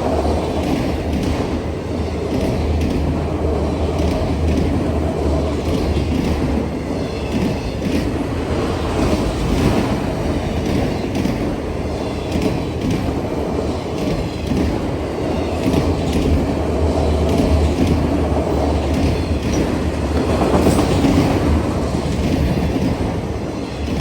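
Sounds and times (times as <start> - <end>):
wheels clicking over rail joints: 0.0 - 8.2, 10.4 - 24.0
train wheels rumbling on rail: 0.0 - 24.0.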